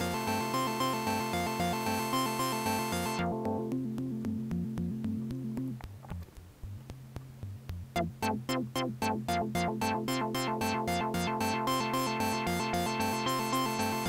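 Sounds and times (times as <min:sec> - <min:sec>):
synthesizer bass pattern: 0:00.0 - 0:14.0.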